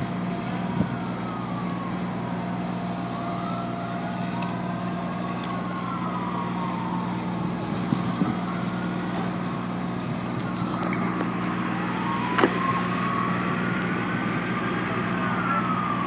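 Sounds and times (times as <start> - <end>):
fire engine sirens wailing: 0.0 - 16.0
fire truck engine drone: 0.0 - 16.0.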